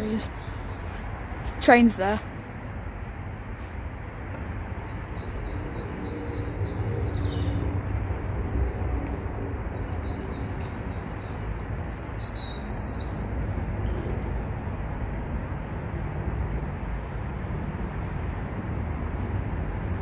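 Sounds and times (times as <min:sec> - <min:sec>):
steady low rumble: 0:00.0 - 0:12.0, 0:13.3 - 0:20.0.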